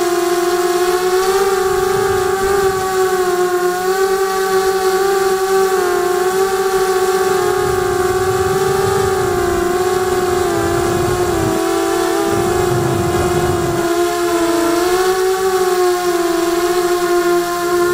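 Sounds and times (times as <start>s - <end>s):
drone motors and propellers whining: 0.0s - 17.9s
rough rumbling noise: 1.1s - 17.9s.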